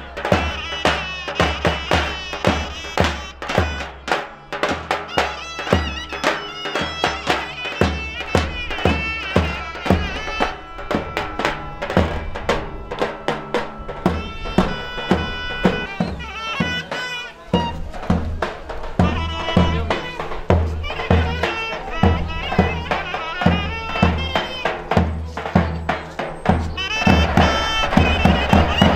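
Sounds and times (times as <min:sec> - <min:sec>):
steady drum beat: 0:00.0 - 0:28.9
wind instrument melody: 0:00.0 - 0:28.9.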